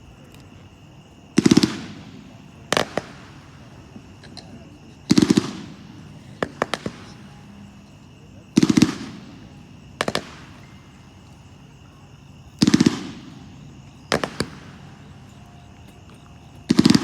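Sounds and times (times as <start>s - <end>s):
firework shells cracking: 1.3s - 17.0s.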